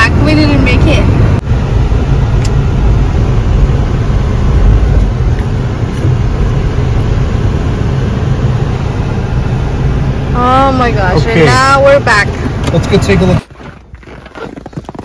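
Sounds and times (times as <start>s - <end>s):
car driving through snow: 0.2s - 15.0s.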